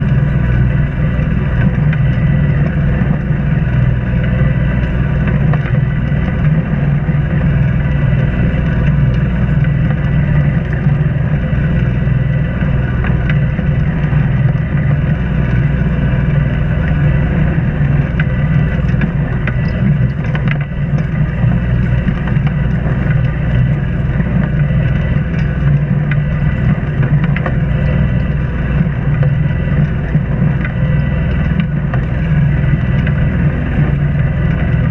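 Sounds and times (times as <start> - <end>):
boat engine droning: 0.0 - 34.9.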